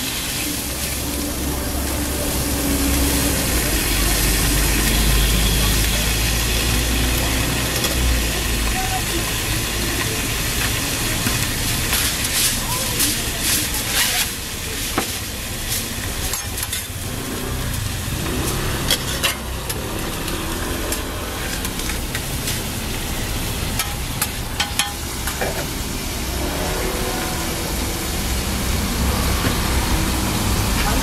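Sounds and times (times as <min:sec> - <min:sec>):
food sizzling on a griddle: 0:00.0 - 0:31.0.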